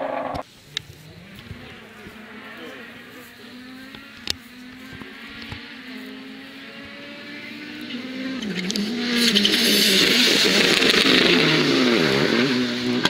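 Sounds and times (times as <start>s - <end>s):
rally car engine passing: 0.0s - 13.0s.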